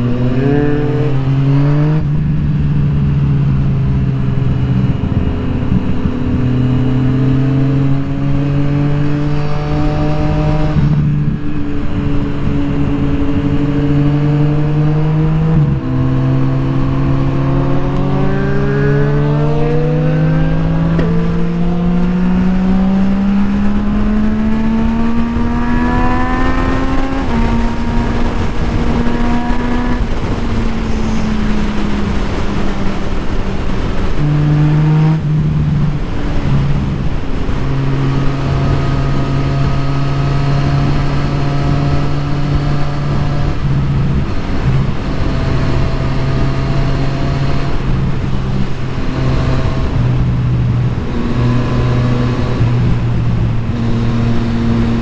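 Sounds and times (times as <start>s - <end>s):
constant rushing noise: 0.0s - 55.0s
motorcycle engine revving: 0.0s - 55.0s.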